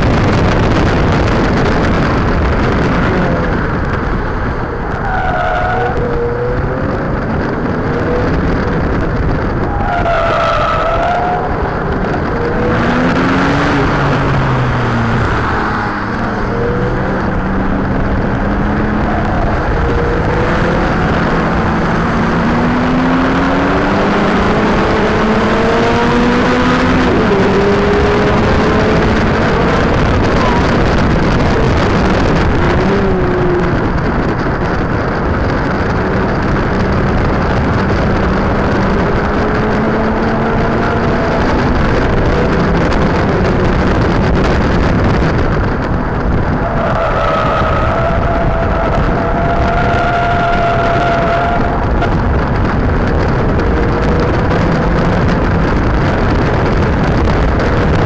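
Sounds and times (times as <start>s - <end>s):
car engine running hard: 0.0s - 58.0s
road and wind noise: 0.0s - 58.0s.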